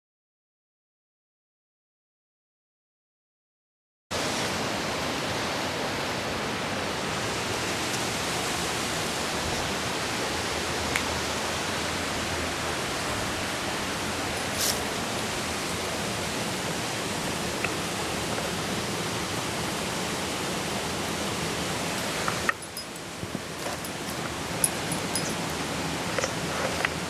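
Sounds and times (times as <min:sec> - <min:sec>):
mountain river rushing: 0:04.2 - 0:27.0.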